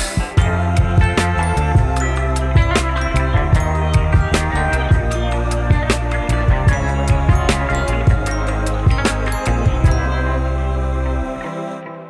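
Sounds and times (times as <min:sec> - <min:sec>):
steady drum beat: 0:00.0 - 0:10.2
guitar: 0:00.0 - 0:12.0
bass line: 0:00.3 - 0:11.4.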